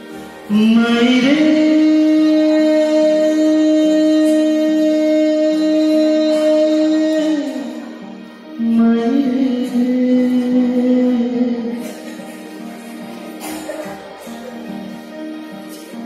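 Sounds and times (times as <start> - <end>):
electronic keyboard: 0.0 - 16.0
person singing: 0.0 - 16.0.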